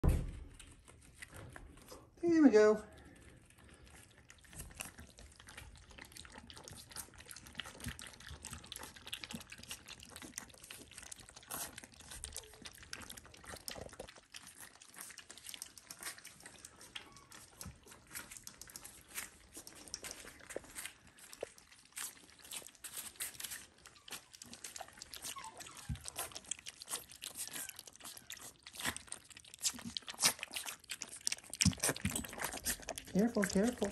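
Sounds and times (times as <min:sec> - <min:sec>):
puppies lapping from metal dish: 0:00.0 - 0:33.9.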